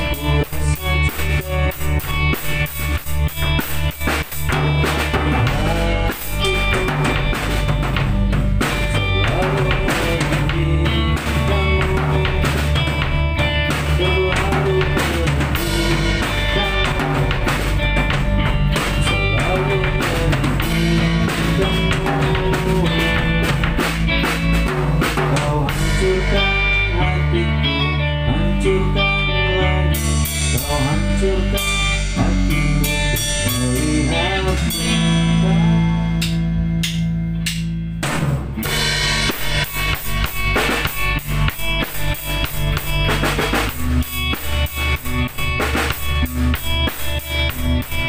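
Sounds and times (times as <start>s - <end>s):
bass guitar: 0.0s - 48.0s
drum kit: 0.0s - 48.0s
electric guitar: 0.0s - 48.0s
keyboard: 0.0s - 48.0s.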